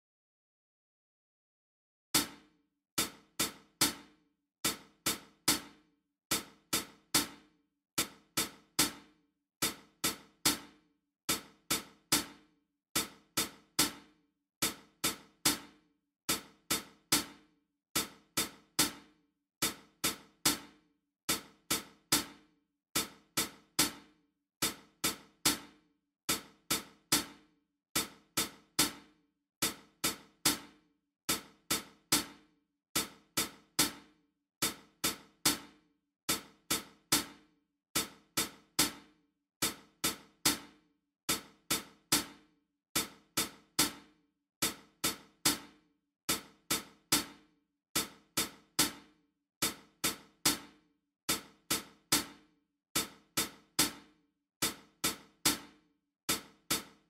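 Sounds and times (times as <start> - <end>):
dry percussion click beat: 2.2 - 57.0.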